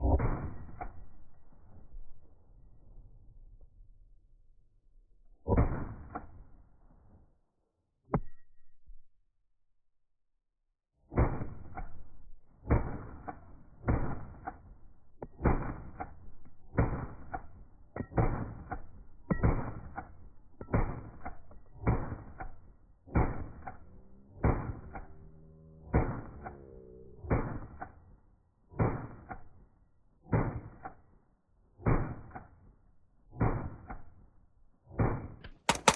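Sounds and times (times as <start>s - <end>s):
slow-motion rifle shots: 0.0s - 3.7s, 5.3s - 7.3s, 11.0s - 35.9s.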